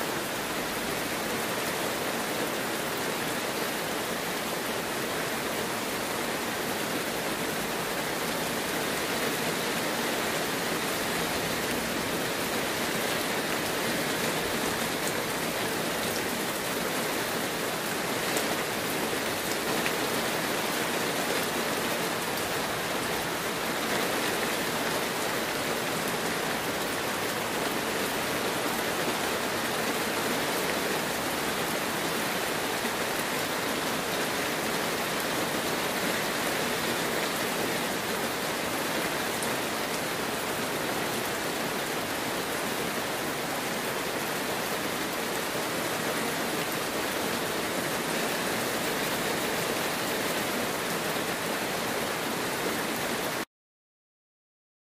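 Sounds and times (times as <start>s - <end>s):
heavy rain falling: 0.0s - 53.5s.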